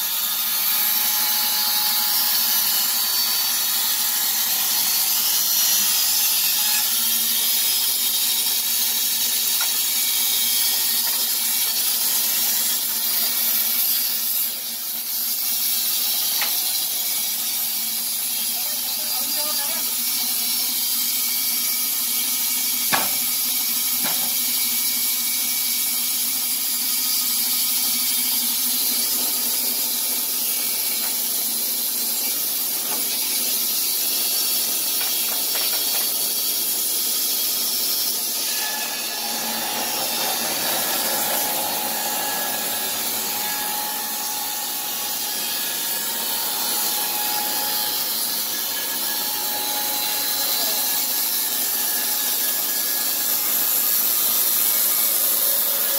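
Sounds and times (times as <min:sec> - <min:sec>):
band saw cutting board: 0:00.0 - 0:55.9.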